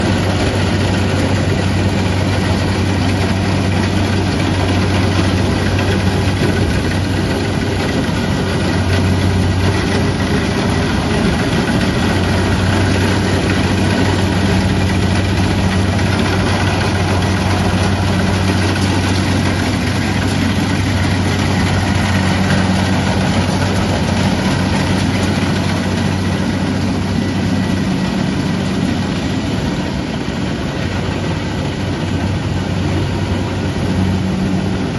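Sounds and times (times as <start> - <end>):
combine harvester engine droning: 0.0 - 34.9.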